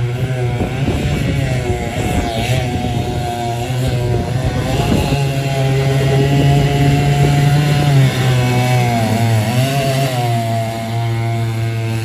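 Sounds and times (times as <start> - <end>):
chainsaw engine at high revs: 0.0 - 12.0.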